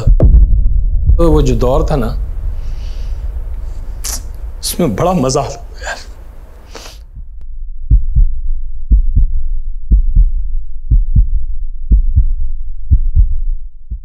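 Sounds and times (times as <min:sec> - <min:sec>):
heartbeat thumps: 0:00.0 - 0:04.6, 0:05.6 - 0:14.0.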